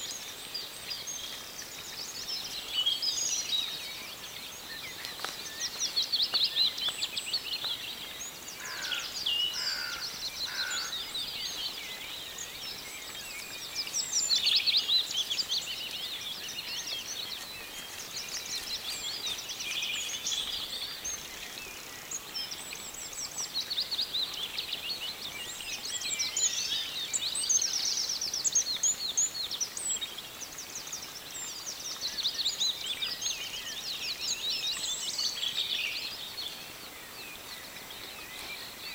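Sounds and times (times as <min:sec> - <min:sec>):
faint outdoor hiss: 0:00.0 - 0:38.9
songbirds trilling and chirping: 0:00.0 - 0:38.9.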